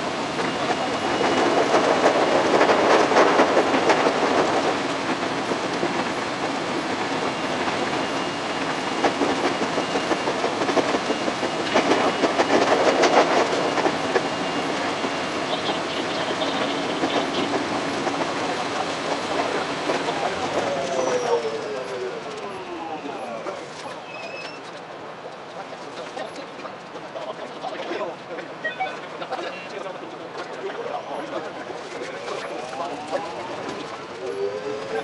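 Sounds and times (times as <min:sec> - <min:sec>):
train wheels rumbling on rail: 0:00.0 - 0:28.6, 0:29.7 - 0:35.0
rail clicks: 0:00.0 - 0:35.0.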